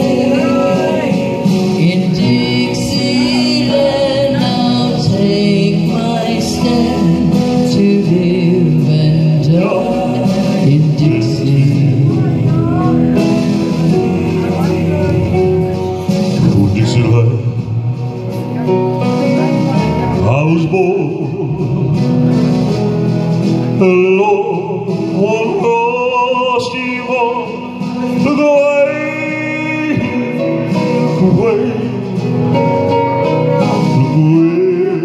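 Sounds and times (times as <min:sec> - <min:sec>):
instrumental backing music: 0:00.0 - 0:35.0
man singing into microphone: 0:00.0 - 0:35.0.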